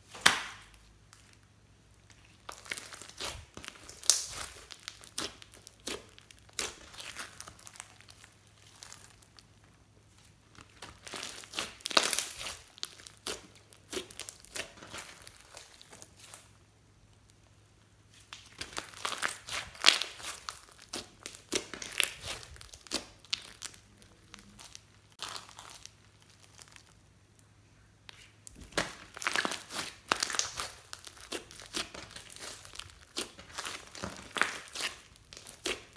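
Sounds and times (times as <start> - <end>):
slime squishing and popping: 2.1 - 9.4, 10.5 - 16.5, 18.2 - 27.0, 28.1 - 35.9.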